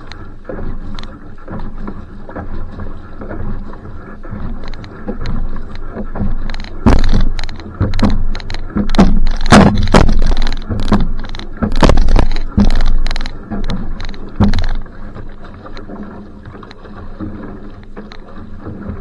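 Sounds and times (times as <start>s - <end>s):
canoe hull wash: 0.0s - 19.0s
paddle strokes splashing water: 0.0s - 19.0s.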